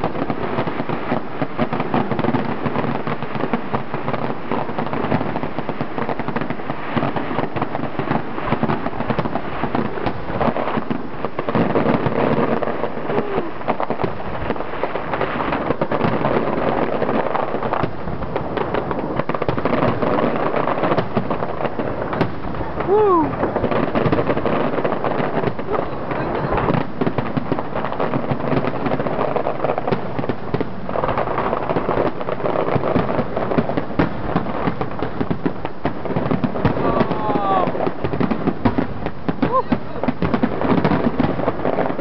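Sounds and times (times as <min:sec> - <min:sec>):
fireworks bangs and crackle: 0:00.0 - 0:42.0.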